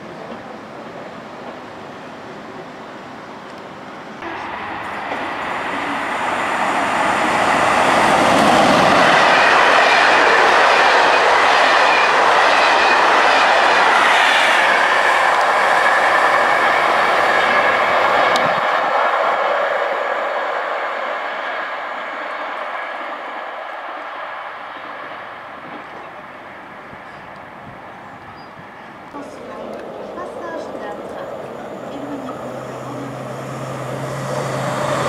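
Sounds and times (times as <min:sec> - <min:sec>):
train wheels rushing on rail: 0:00.0 - 0:35.0.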